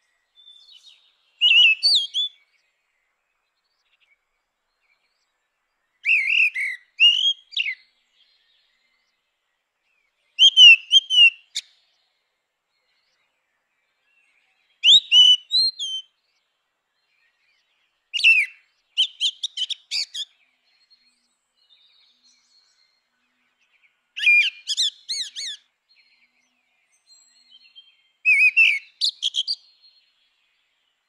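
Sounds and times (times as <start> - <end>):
blackbird singing: 0.0 - 31.0.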